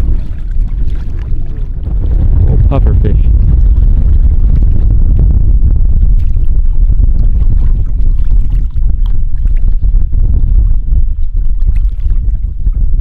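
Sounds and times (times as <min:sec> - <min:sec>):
shallow water splashing: 0:00.0 - 0:13.0
wind buffeting microphone: 0:00.0 - 0:13.0.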